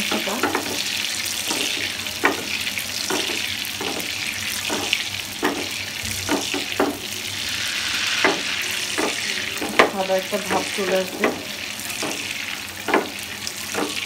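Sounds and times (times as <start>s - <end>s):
meat frying in hot oil: 0.0s - 14.0s.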